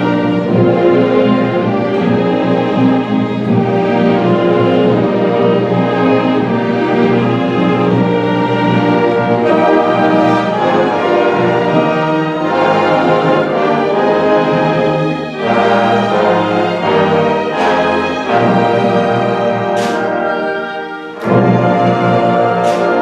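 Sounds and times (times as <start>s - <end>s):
bowed strings: 0.0s - 23.0s
symphony orchestra playing: 0.0s - 23.0s.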